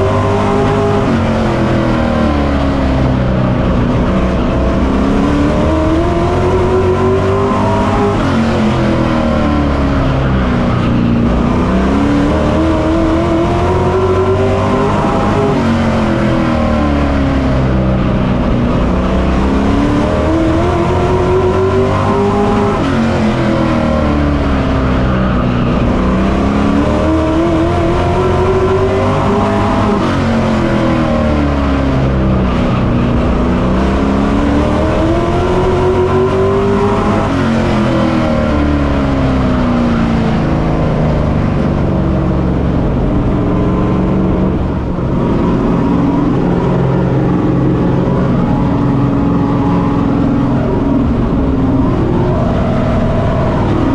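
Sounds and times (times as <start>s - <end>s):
racing truck engine accelerating: 0.0s - 53.9s.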